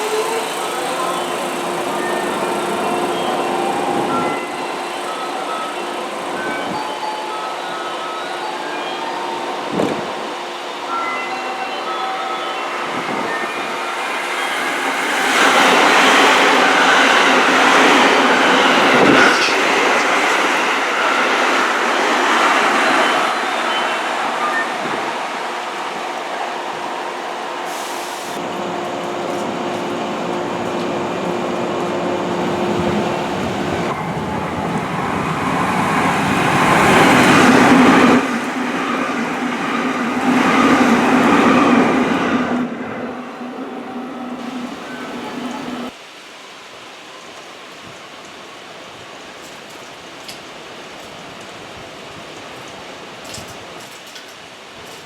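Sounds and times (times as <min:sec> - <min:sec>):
train wheel and running noise: 0:00.0 - 0:55.0.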